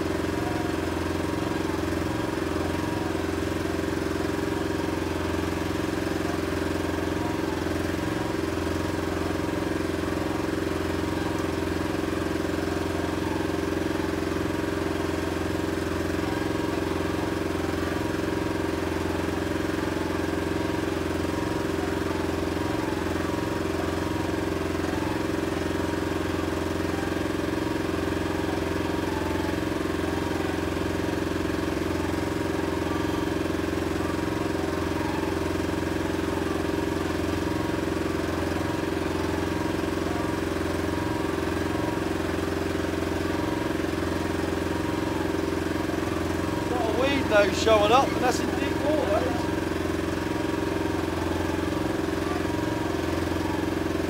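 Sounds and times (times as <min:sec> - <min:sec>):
outboard motor idling: 0:00.0 - 0:54.0.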